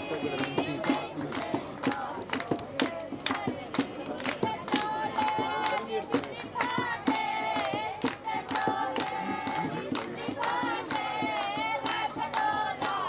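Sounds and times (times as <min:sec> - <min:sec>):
hand clapping: 0:00.0 - 0:13.0
women singing folk song: 0:00.0 - 0:13.0.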